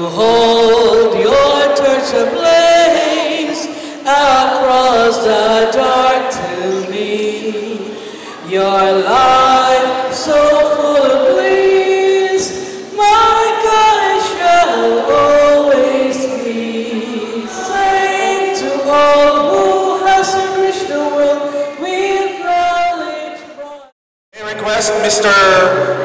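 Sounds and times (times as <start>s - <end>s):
crowd singing in chorus: 0.0s - 23.8s.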